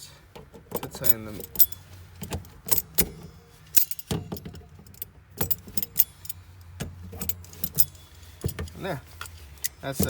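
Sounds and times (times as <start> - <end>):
parts clicking and clattering: 0.3 - 10.0.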